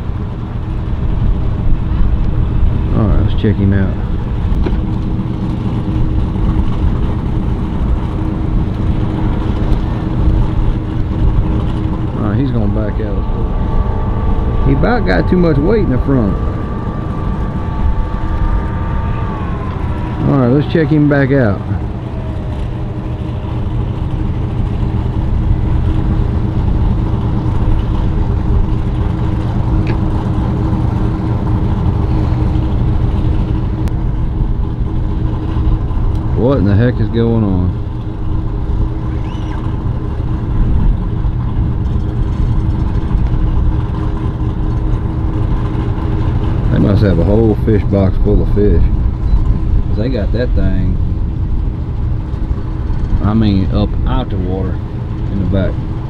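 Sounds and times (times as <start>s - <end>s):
engine idling: 0.0s - 56.0s
wind rumbling on microphone: 0.0s - 56.0s.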